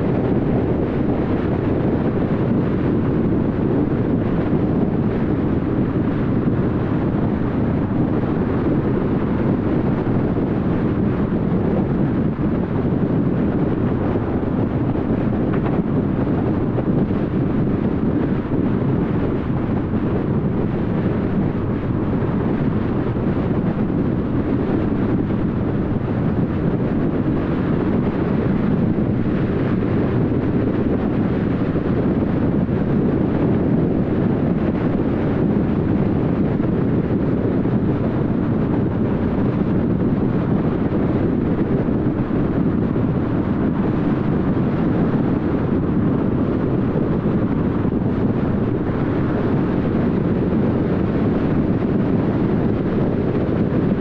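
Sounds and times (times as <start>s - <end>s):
car road and wind noise: 0.0s - 54.0s.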